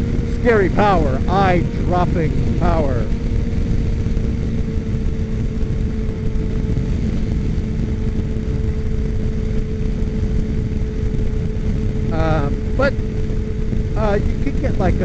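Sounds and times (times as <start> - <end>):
motorcycle engine hum: 0.0 - 15.0
wind rumble on microphone: 0.0 - 15.0.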